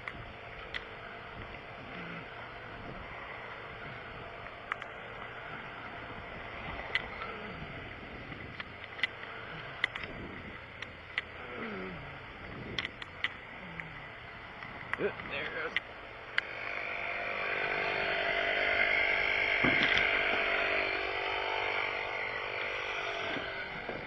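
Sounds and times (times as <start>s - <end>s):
vehicles passing: 0.0s - 24.0s.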